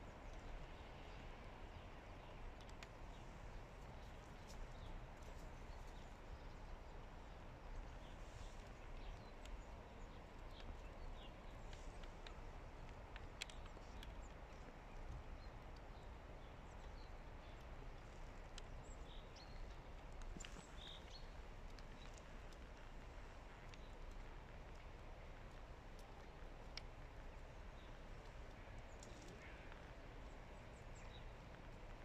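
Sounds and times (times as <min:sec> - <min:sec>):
outdoor background noise: 0:00.0 - 0:32.0.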